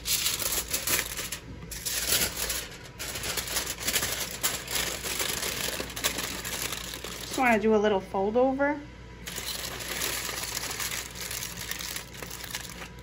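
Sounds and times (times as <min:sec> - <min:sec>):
aluminium foil crinkling: 0:00.0 - 0:07.6, 0:09.2 - 0:13.0.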